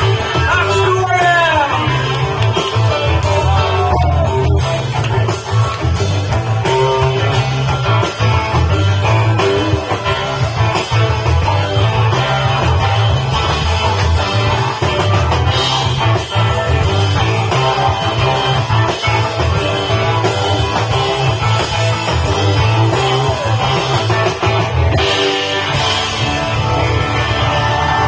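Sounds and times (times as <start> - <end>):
drum kit: 0.0 - 28.0
electric guitars: 0.0 - 28.0
loud bass line: 0.0 - 28.0.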